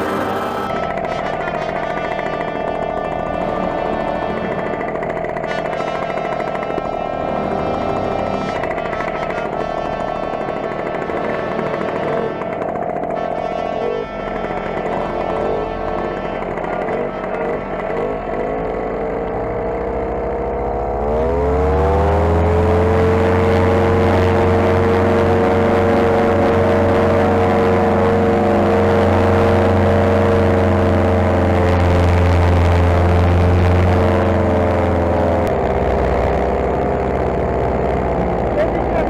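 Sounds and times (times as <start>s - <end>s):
paramotor engine revving: 0.0s - 39.0s.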